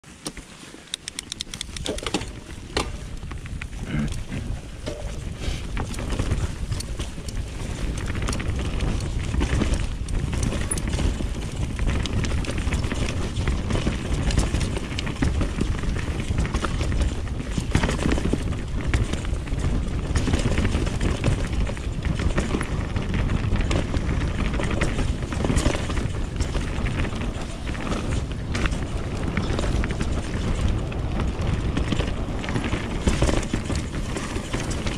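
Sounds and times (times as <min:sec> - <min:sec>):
bike clicking and rattling: 0:00.0 - 0:34.9
bike tyre noise on dirt: 0:00.0 - 0:34.9
wind rumble on microphone: 0:01.2 - 0:34.9.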